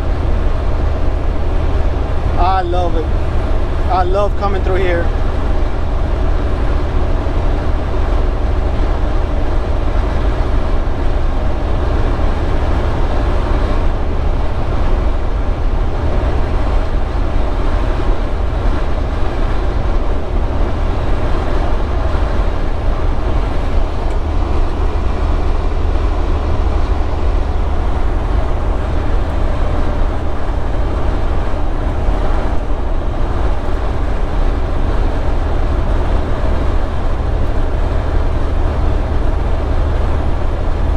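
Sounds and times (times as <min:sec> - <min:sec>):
diesel engine drone: 0:00.0 - 0:40.9
road and tyre noise: 0:00.0 - 0:40.9.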